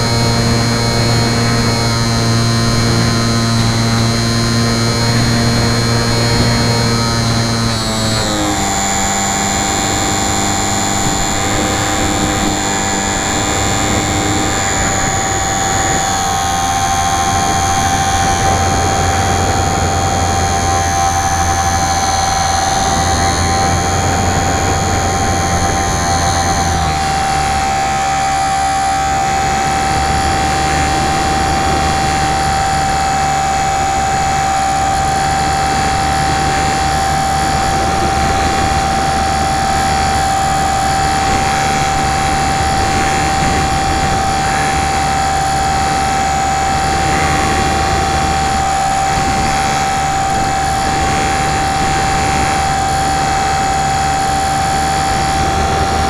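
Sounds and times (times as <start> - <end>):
model plane motor whining: 0.0 - 56.0.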